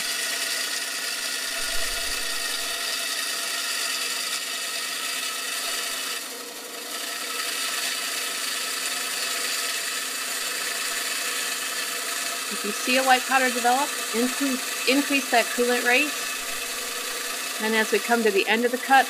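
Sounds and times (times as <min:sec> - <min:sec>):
band saw grinding glass: 0:00.0 - 0:19.0.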